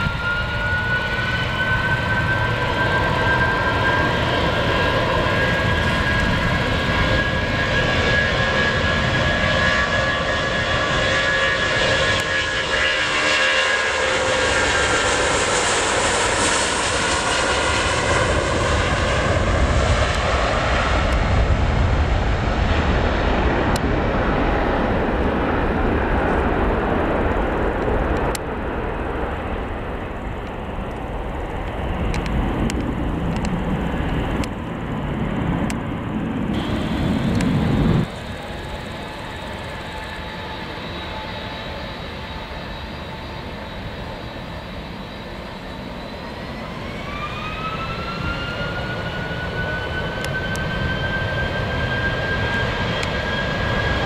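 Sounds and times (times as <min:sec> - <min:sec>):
jet engines at takeoff power: 0:00.0 - 0:54.0
jet engines idling whine: 0:00.0 - 0:54.0.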